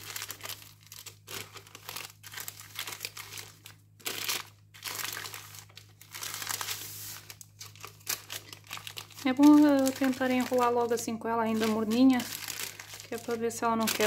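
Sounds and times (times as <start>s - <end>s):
baking paper crinkling: 0.0s - 14.0s.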